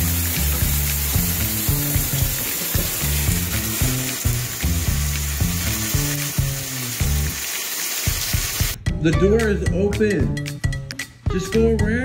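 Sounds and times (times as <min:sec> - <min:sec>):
background music with bass line: 0:00.0 - 0:07.4, 0:08.3 - 0:12.0.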